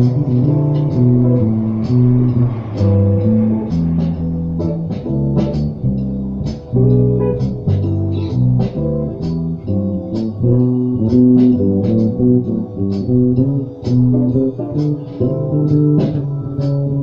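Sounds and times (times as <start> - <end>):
guitar picked low notes: 0.0 - 17.0.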